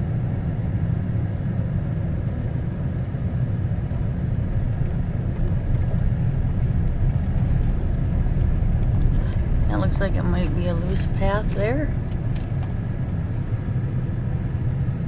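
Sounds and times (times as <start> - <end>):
pickup truck driving slowly: 0.0 - 15.0.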